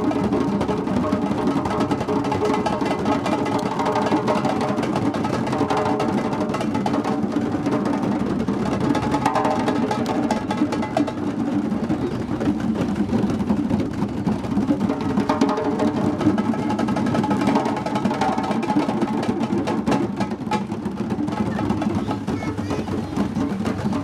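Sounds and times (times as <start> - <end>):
hand drums playing together: 0.0 - 24.0.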